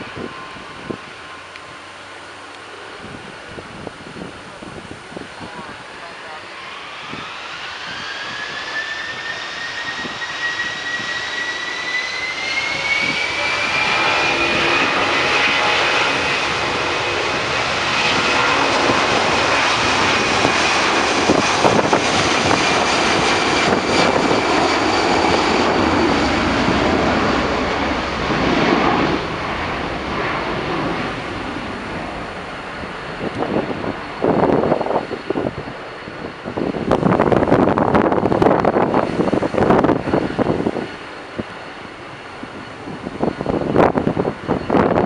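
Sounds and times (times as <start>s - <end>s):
jet engine whine rising: 0.0s - 45.0s
loud jet roar: 0.0s - 45.0s.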